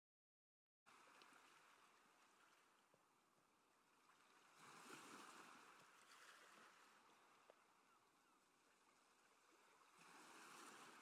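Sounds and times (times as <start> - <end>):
sea water rushing along hulls: 0.9 - 11.0.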